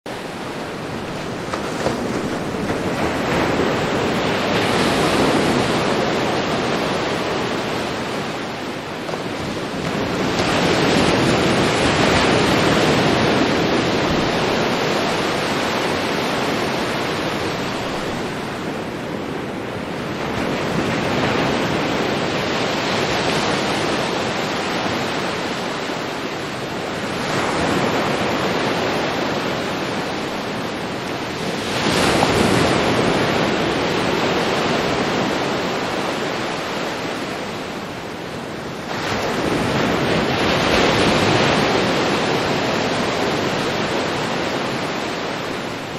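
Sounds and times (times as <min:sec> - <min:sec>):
ocean waves breaking: 0:00.1 - 0:45.9.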